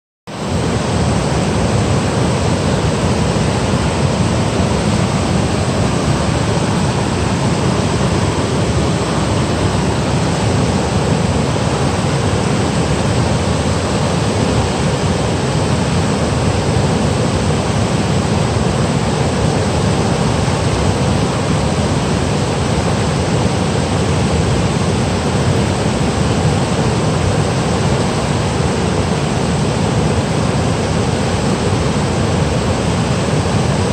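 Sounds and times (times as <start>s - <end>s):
stream rushing over rocks: 0.3s - 33.9s.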